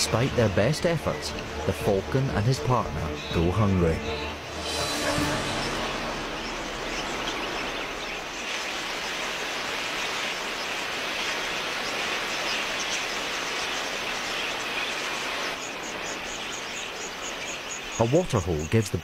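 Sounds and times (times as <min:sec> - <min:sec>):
flock of budgerigars chattering: 0:00.0 - 0:05.0, 0:05.6 - 0:19.0.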